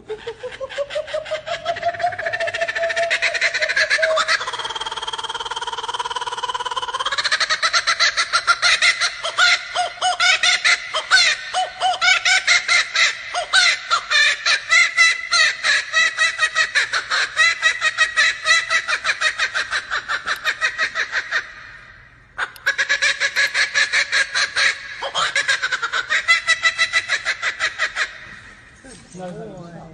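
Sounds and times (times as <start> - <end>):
kookaburra cackling call: 0.0 - 28.4.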